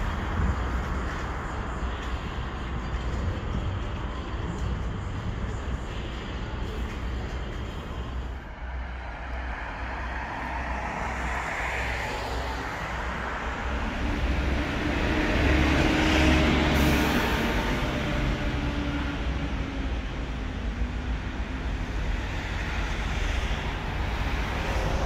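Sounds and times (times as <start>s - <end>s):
road noise: 0.0s - 25.0s
vehicle engine rumble: 0.0s - 25.0s.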